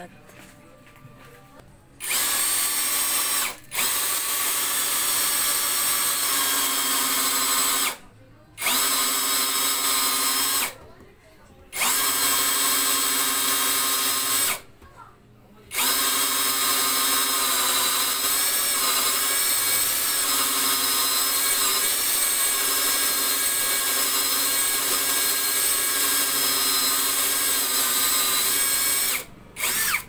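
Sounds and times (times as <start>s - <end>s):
cordless drill boring wood: 2.0s - 10.8s, 11.7s - 14.7s, 15.7s - 30.0s.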